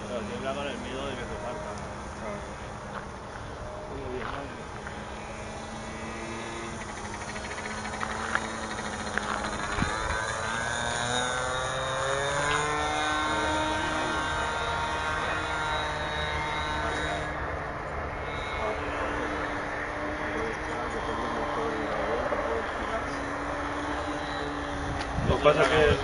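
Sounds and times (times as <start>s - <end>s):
model aircraft motor: 0.0s - 26.0s.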